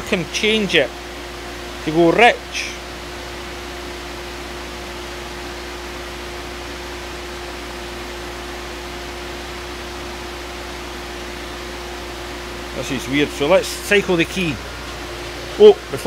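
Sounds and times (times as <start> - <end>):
car engine running: 0.0 - 16.0
radiator cooling fan running: 0.0 - 16.0.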